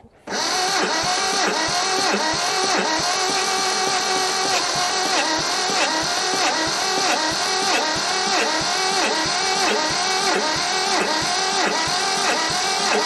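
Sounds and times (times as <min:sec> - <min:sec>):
starter cranking diesel engine: 0:00.3 - 0:13.0.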